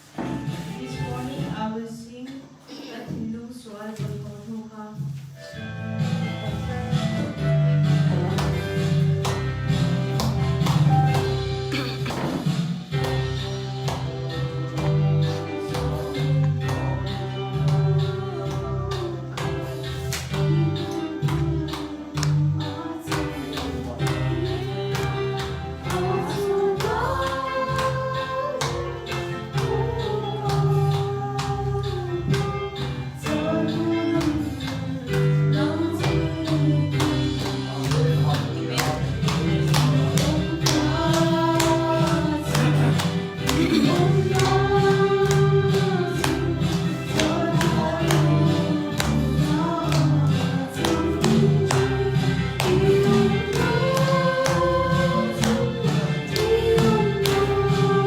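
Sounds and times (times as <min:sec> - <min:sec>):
gospel singing with instruments: 0:00.0 - 0:58.0
steady percussion beat: 0:05.9 - 0:58.0.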